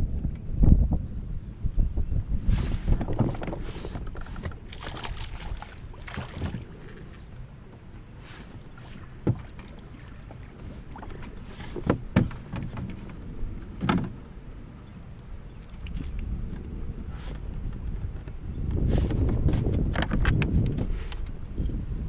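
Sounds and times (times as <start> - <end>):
water around boat: 0.0 - 22.0
wind: 0.0 - 22.0.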